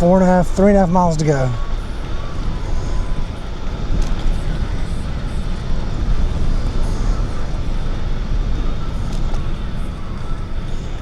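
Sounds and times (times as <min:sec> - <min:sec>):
bicycle tyre noise on path: 0:00.0 - 0:11.0
wind buffeting microphone: 0:00.0 - 0:11.0.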